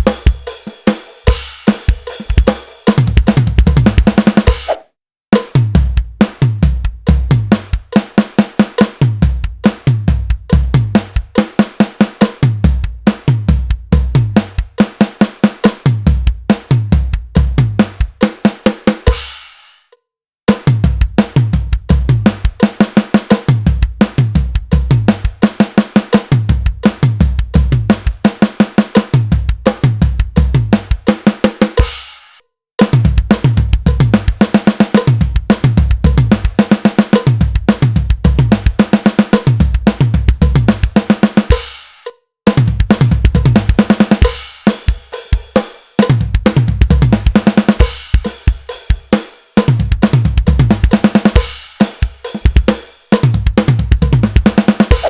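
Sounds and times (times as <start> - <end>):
drum kit playing: 0.0 - 4.8, 5.4 - 19.7, 20.5 - 55.0.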